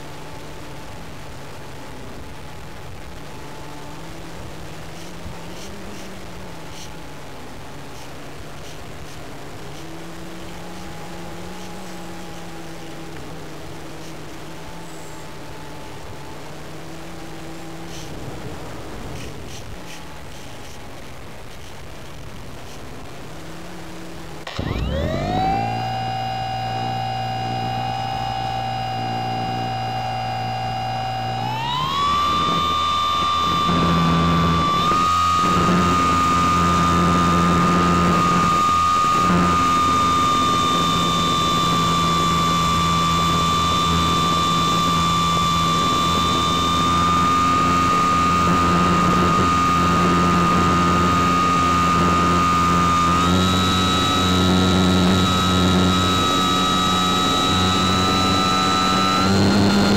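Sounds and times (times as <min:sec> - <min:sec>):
model plane motor whine: 0:00.0 - 0:20.9, 0:22.6 - 0:59.9.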